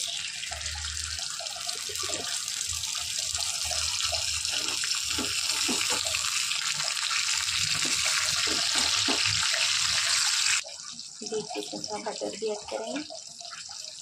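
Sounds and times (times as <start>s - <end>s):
crackles of frying: 0.0s - 14.0s
spices sizzling in hot oil: 0.0s - 14.0s.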